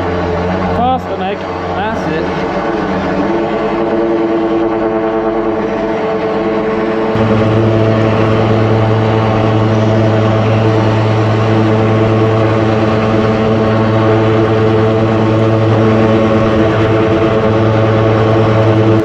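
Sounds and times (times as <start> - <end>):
drain jetter engine and pump humming: 0.0 - 19.0.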